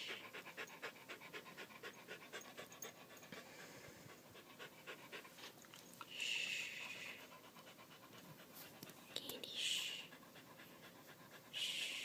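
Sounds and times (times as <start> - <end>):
dog panting quickly: 0.0 - 5.7, 6.4 - 12.0.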